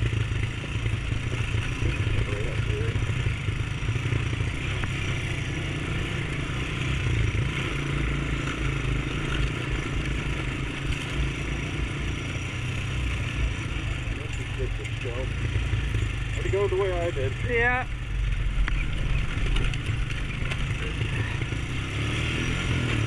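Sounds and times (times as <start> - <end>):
atv engine rumble: 0.0 - 23.0
constant rushing noise: 0.0 - 23.0.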